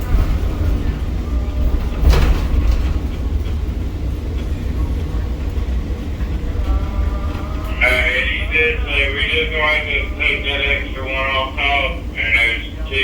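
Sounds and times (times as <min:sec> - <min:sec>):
crane machinery rumbling: 0:00.0 - 0:13.0.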